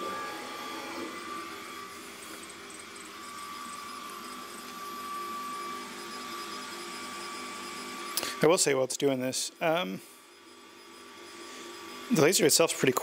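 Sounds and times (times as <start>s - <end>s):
stepper motors whining: 0.0s - 8.6s, 9.7s - 13.0s
steady high machine whine: 0.0s - 13.0s.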